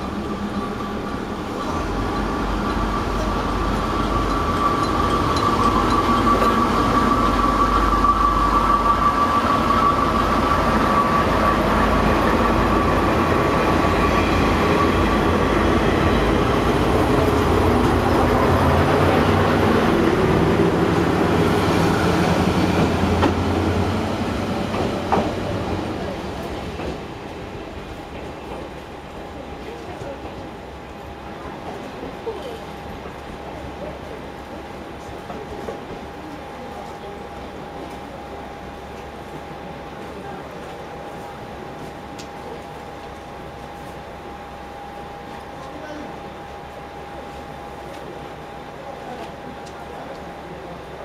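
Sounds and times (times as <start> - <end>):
diesel railcars running past: 0.0 - 51.0.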